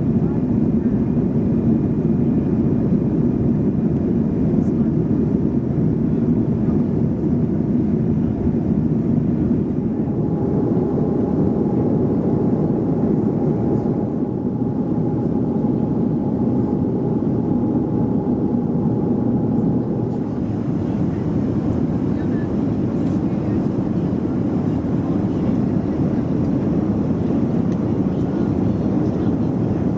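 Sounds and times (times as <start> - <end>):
airliner cabin engine rumble: 0.0 - 29.9.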